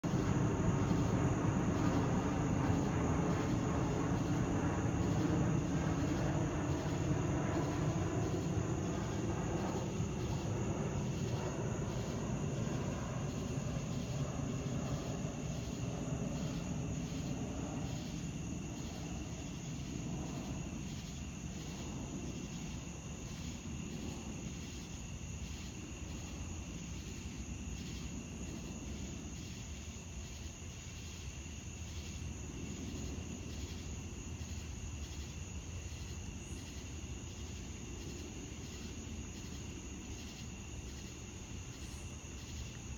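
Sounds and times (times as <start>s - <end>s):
night insects chirring: 0.0s - 42.9s.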